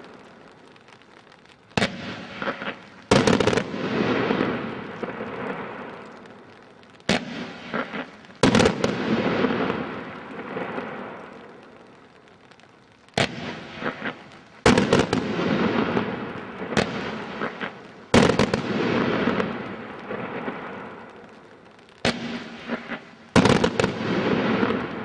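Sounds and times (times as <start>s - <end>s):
fireworks crackling tail: 0.0s - 25.0s
fireworks shots: 0.0s - 25.0s.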